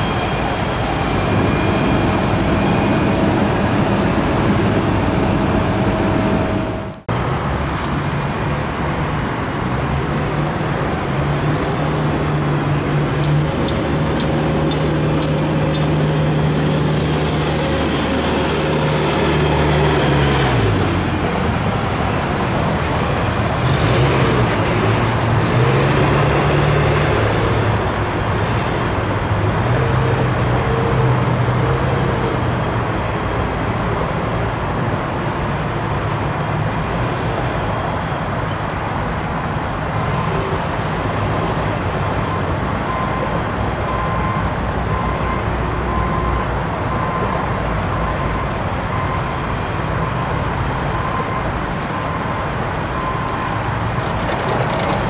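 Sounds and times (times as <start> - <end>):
diesel engines running: 0.0 - 55.0
road traffic noise: 0.0 - 55.0.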